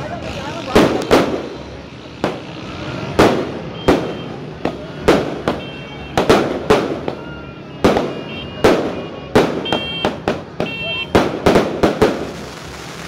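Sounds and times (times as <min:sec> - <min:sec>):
fireworks bursting with echo: 0:00.2 - 0:13.0.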